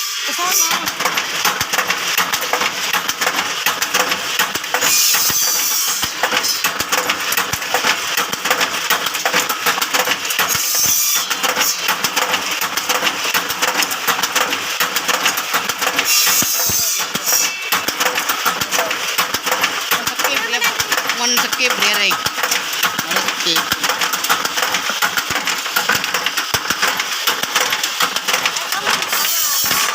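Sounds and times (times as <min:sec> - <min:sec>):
machine metallic clatter: 0:00.3 - 0:29.9.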